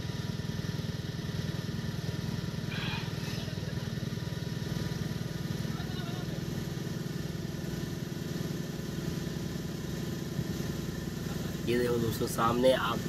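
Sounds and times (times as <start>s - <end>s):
auto rickshaw engine running: 0.0s - 13.0s
road noise: 0.0s - 13.0s.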